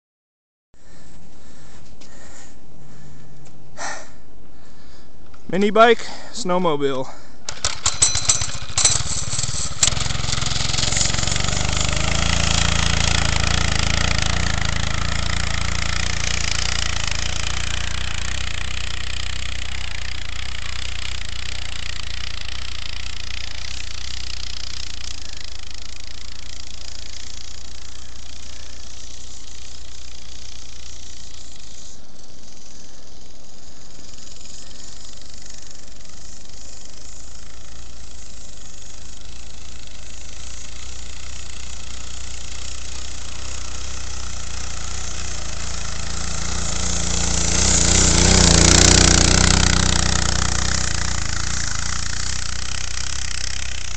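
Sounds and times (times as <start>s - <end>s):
mini bike engine starting and running: 0.8s - 53.9s.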